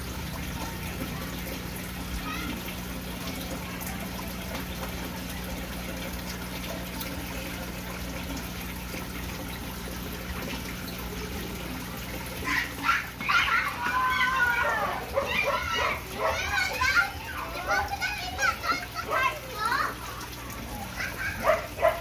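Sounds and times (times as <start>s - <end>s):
low pump hum: 0.0s - 22.0s
water bubbling and trickling: 0.0s - 22.0s.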